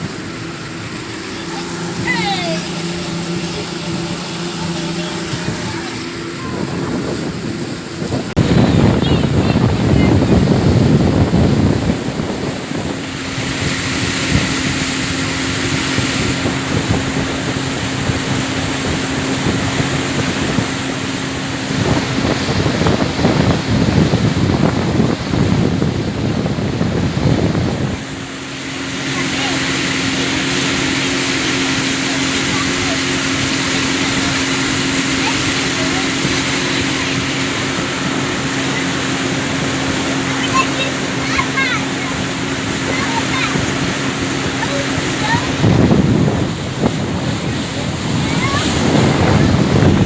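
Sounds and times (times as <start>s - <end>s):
boat engine droning: 0.0s - 50.0s
rushing water: 0.0s - 50.0s
wind buffeting microphone: 0.0s - 50.0s.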